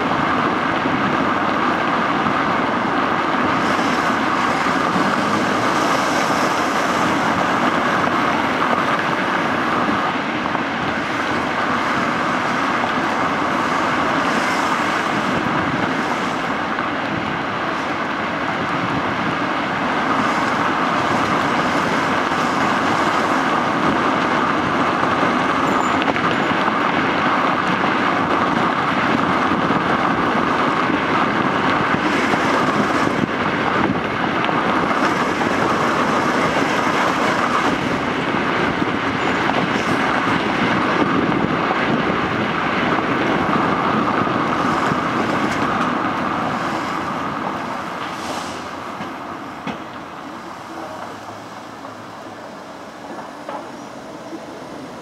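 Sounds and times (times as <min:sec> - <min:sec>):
car tyre and engine noise: 0:00.0 - 0:55.0
wind noise: 0:00.0 - 0:55.0.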